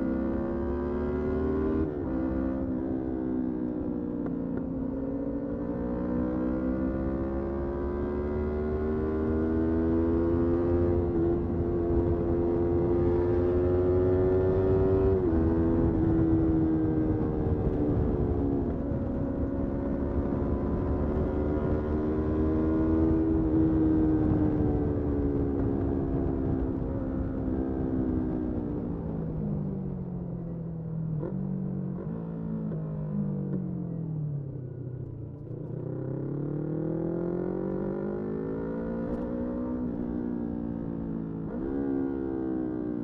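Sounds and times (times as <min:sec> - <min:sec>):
wind and road noise rumble: 0:00.0 - 0:43.0.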